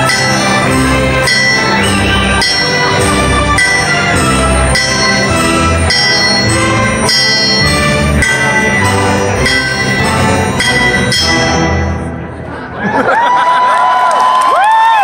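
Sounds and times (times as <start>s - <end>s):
ringing struck metal: 0.0s - 12.3s
live ensemble music: 0.0s - 12.6s.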